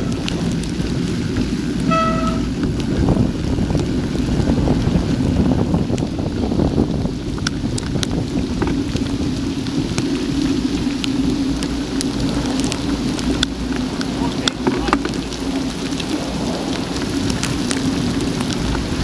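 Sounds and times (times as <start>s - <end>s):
raindrops ticking on camera: 0.0s - 19.0s
tyres on wet track: 0.0s - 19.0s
wind rushing over microphone: 0.0s - 19.0s.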